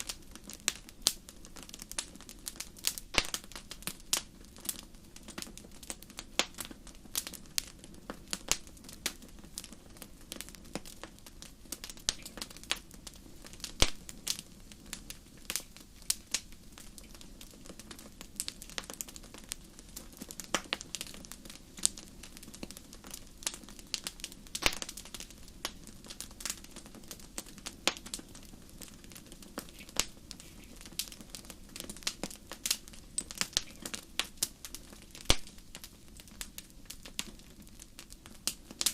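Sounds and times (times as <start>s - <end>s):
fire crackling and popping: 0.0s - 38.9s
flames rushing: 0.0s - 38.9s.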